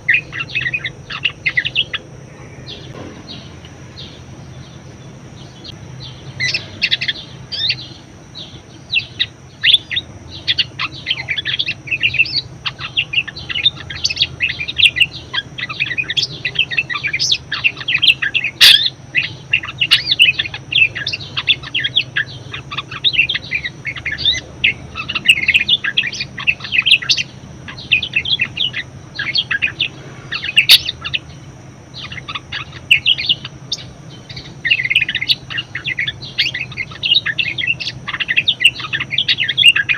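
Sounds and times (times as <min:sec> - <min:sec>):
budgerigar chattering: 0:05.6 - 0:39.9.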